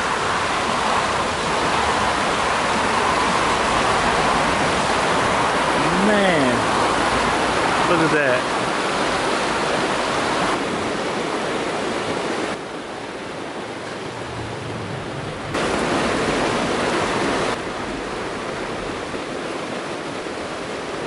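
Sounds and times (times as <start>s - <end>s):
creek rushing over stones: 0.0s - 21.0s.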